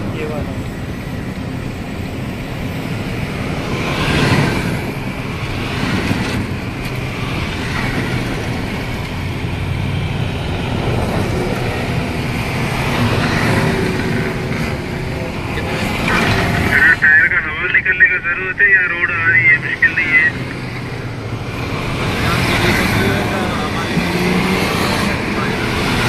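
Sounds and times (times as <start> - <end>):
cars driving on dirt track: 0.0 - 26.0.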